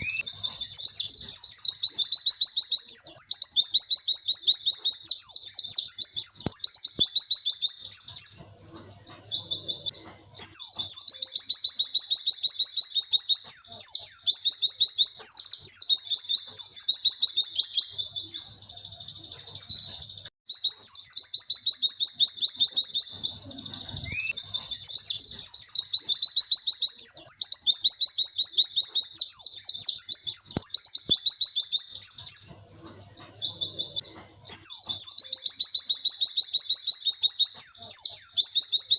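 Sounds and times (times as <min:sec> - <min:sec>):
bird singing rapid high trills: 0:00.0 - 0:38.9.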